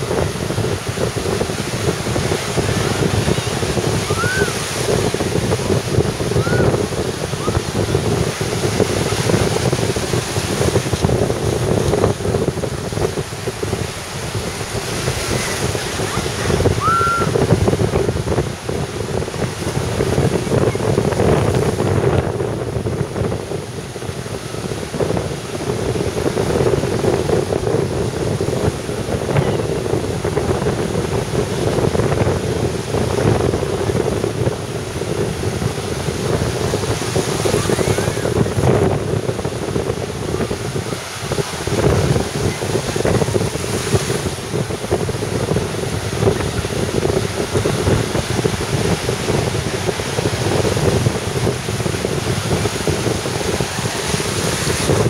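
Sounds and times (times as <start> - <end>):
surf breaking on beach: 0.0 - 55.0
wind buffeting microphone: 0.0 - 55.0.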